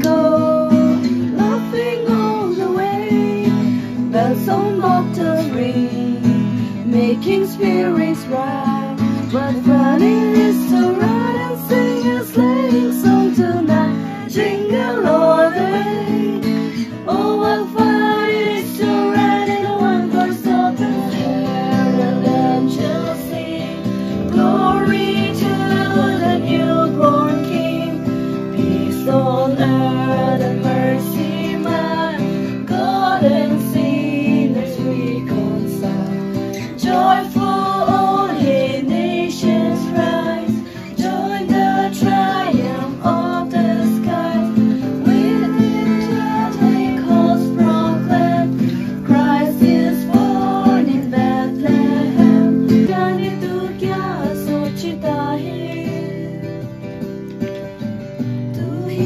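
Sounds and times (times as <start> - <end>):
women singing together: 0.0 - 57.1, 58.2 - 59.0
strummed acoustic guitar: 0.0 - 59.0.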